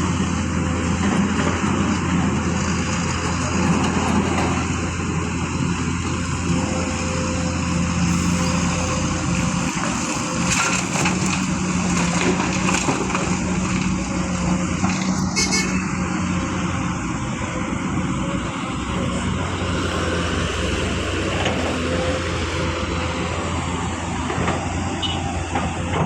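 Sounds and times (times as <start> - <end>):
diesel machinery engine running: 0.0 - 26.0.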